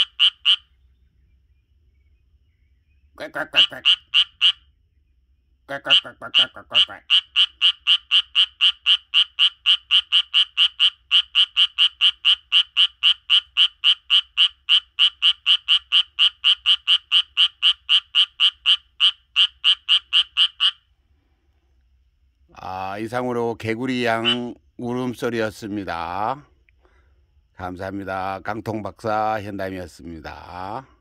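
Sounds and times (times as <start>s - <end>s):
tree frog croaking: 0.0s - 0.8s, 3.1s - 4.8s, 5.6s - 21.0s, 22.5s - 26.6s, 27.6s - 31.0s.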